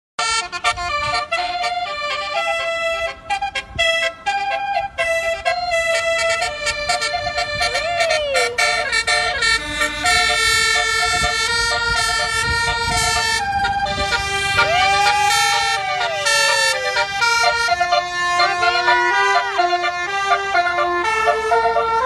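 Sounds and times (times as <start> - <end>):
multi-tone bus air horns: 0.2 - 22.0
siren-like horn glides: 0.2 - 22.0.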